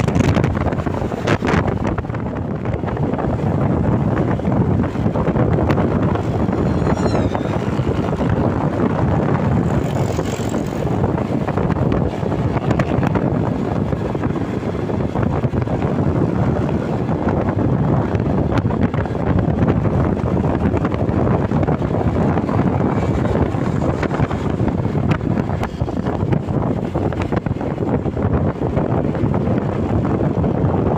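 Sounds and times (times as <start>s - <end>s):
road traffic rumbling: 0.0s - 30.9s
wind buffeting microphone: 0.0s - 30.9s.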